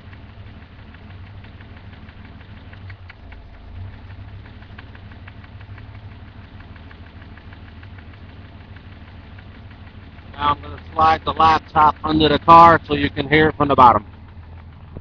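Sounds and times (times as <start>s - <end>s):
car engine idling: 0.0s - 15.0s
rapid ticking knock: 0.1s - 15.0s.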